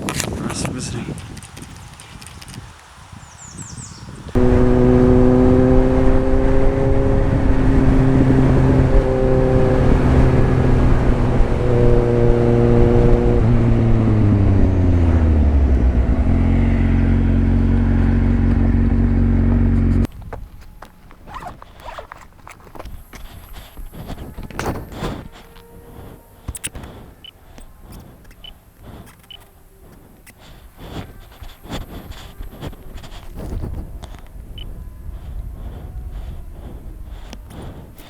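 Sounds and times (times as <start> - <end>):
motorcycle engine running: 4.4 - 38.0.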